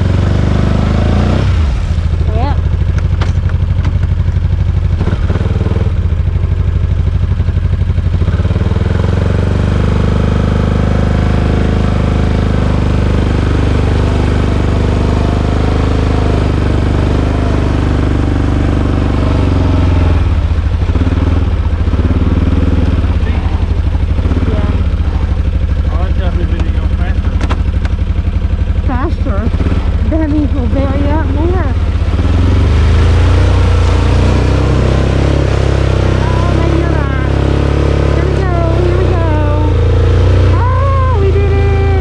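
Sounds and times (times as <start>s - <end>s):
quad bike engine running: 0.0s - 42.0s.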